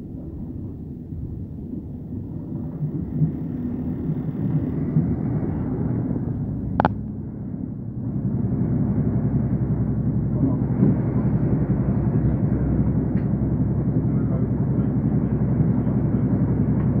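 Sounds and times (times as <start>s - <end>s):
train wheels rumbling on rails: 1.3s - 6.8s, 7.6s - 17.0s.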